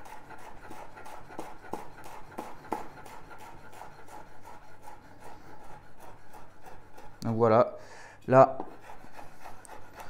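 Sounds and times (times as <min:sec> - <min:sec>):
knife chopping on cutting board: 0:00.0 - 0:07.2, 0:08.6 - 0:10.0.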